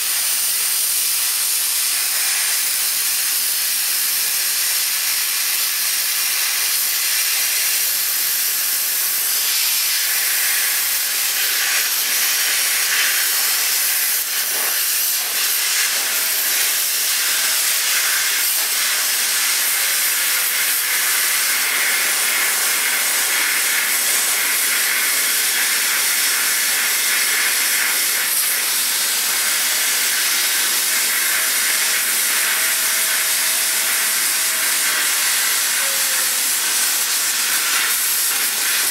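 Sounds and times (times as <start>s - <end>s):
plasma cutter hissing: 0.0s - 38.9s.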